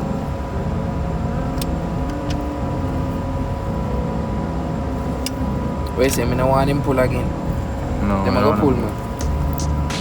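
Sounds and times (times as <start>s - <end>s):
motor running with low rumble: 0.0s - 10.0s.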